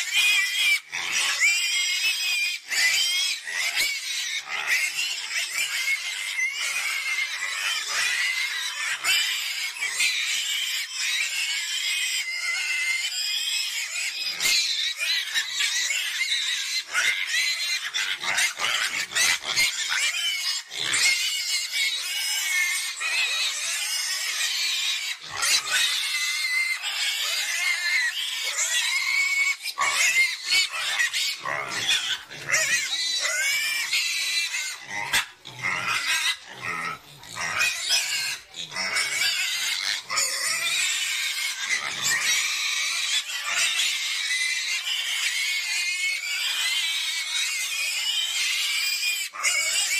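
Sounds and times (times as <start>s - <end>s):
low deep pig calls: 0.0s - 49.9s
pigs squealing: 0.0s - 49.9s.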